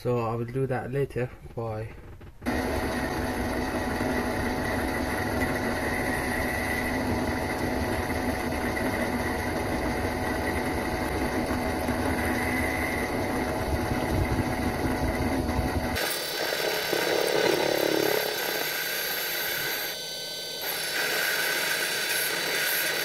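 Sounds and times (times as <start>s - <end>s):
lathe motor hum and whine: 2.5s - 23.0s.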